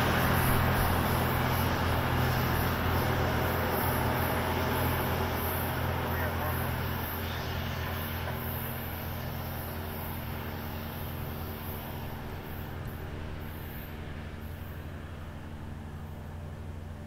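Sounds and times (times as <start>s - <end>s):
train cars rumbling: 0.0s - 16.0s
diesel locomotives droning: 0.0s - 17.0s.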